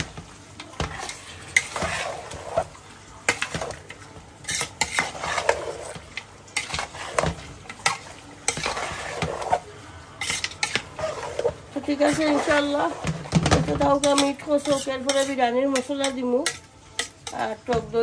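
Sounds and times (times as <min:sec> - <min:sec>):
food sizzling in a pot: 0:00.0 - 0:18.0
spoon clinking and scraping a pot: 0:00.6 - 0:18.0.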